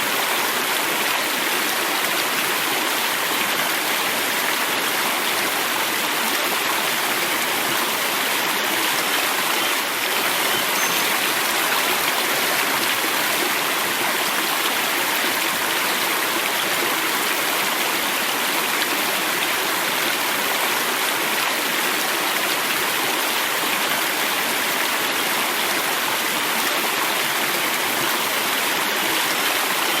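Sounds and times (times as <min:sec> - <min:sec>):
river water rushing over rocks: 0:00.0 - 0:30.0.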